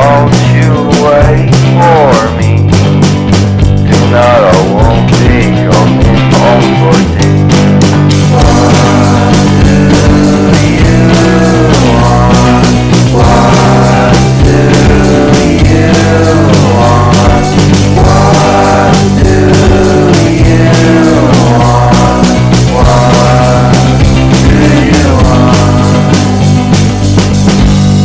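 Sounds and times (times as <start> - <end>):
rock song with vocals: 0.0 - 28.0.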